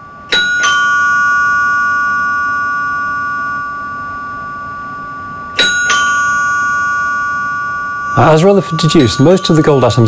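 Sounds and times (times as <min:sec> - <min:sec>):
two-note ding-dong chime: 0:00.0 - 0:10.0.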